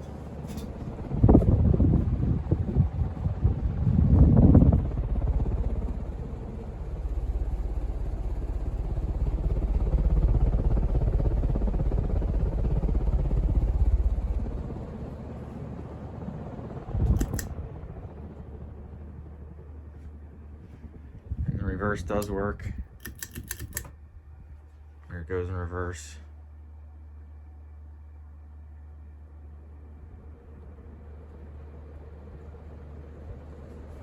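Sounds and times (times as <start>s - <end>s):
ceiling fan whirring: 0.0s - 34.0s.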